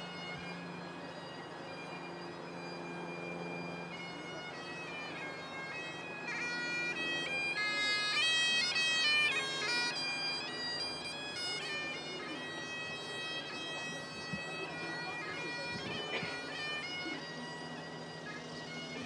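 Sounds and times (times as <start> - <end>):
bagpipe playing marching tune: 0.0 - 19.0.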